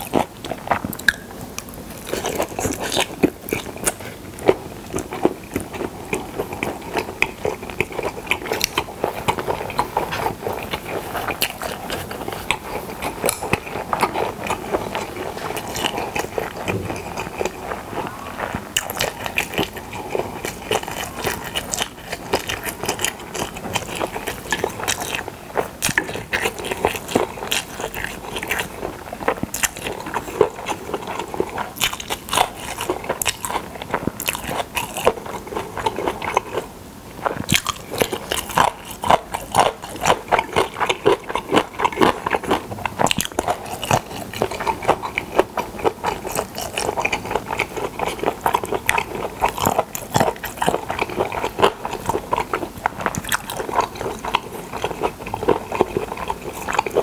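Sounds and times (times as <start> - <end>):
close chewing: 0.0 - 57.0.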